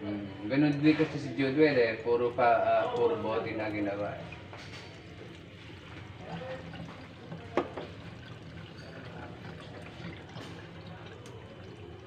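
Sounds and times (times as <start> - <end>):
water stream into a glass and sink: 0.7 - 12.0.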